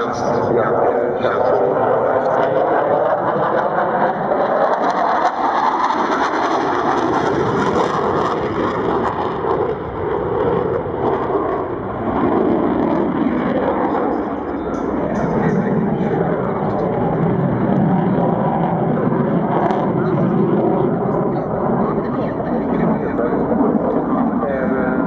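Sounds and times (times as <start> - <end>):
jet engine roar overhead: 0.0 - 25.0.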